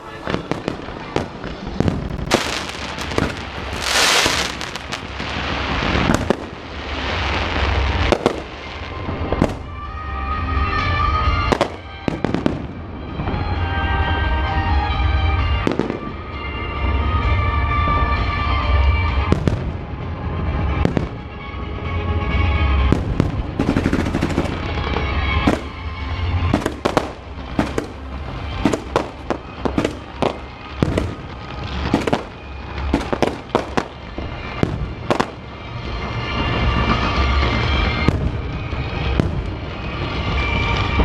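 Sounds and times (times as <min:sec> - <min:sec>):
fireworks bangs and cracks: 0:00.0 - 0:41.0
music: 0:00.0 - 0:41.0.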